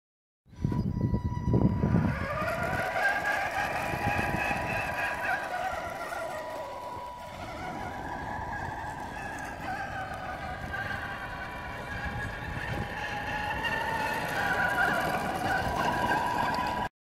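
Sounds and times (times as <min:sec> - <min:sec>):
electric motor whining: 0:00.6 - 0:16.9.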